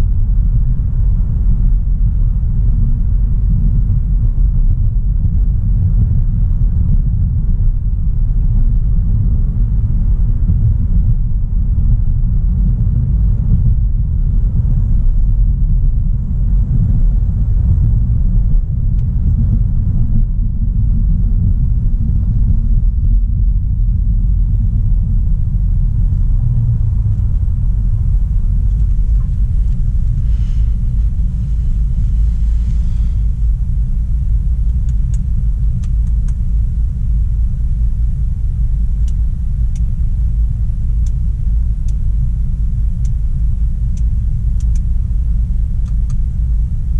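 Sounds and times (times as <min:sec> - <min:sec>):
car driving road and engine rumble: 0:00.0 - 0:46.9.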